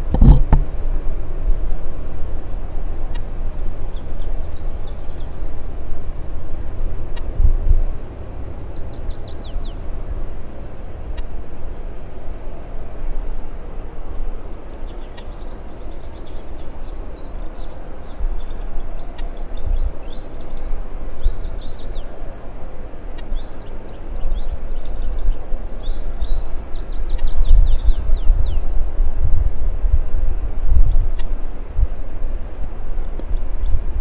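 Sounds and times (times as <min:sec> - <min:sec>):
jet engines low rumble: 0:00.0 - 0:34.0
small birds chirping: 0:02.9 - 0:29.3, 0:30.3 - 0:34.0.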